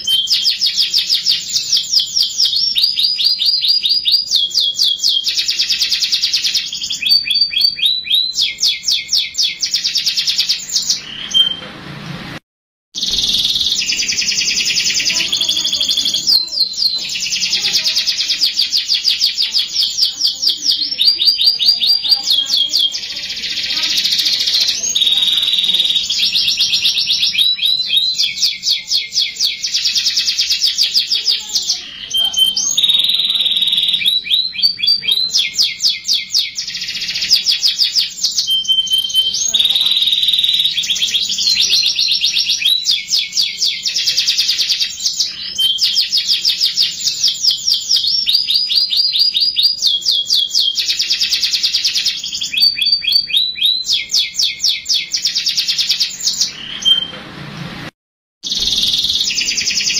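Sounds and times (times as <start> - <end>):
canary singing trills: 0.0 - 11.6, 13.0 - 57.2, 58.4 - 59.9.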